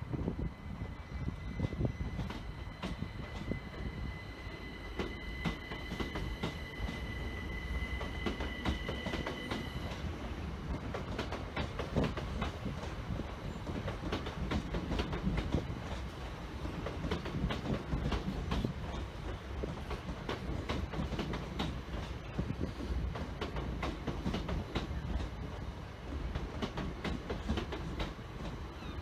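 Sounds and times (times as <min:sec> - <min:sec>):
train rumble: 0:00.0 - 0:29.0
train wheels clicking over rail joints: 0:01.6 - 0:03.9, 0:04.8 - 0:28.7.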